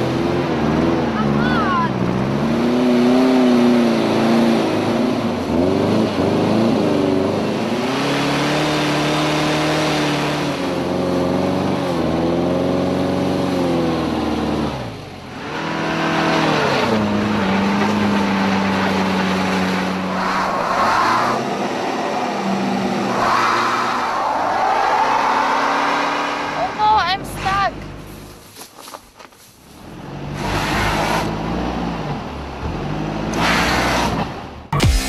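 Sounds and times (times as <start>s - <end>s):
car engine revving: 0.0s - 27.2s, 29.8s - 35.0s.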